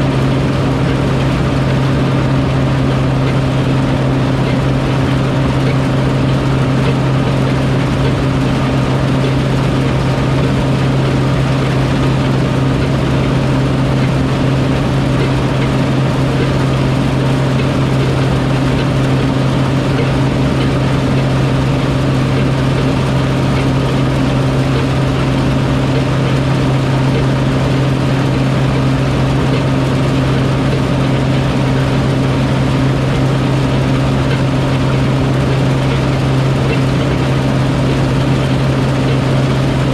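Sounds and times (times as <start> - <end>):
farm machine engine droning: 0.0 - 39.9.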